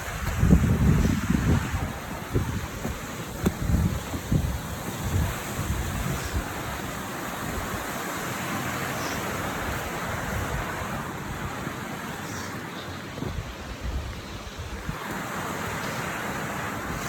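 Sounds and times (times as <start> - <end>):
water flowing: 0.0 - 17.0
wind buffeting microphone: 0.0 - 17.0.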